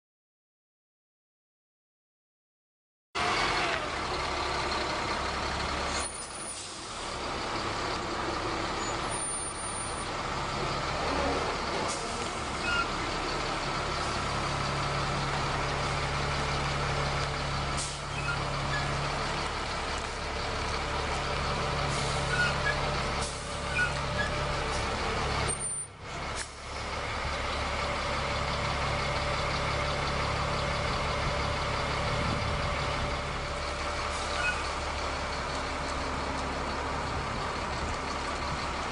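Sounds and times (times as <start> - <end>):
truck diesel engine idling: 3.2 - 38.9.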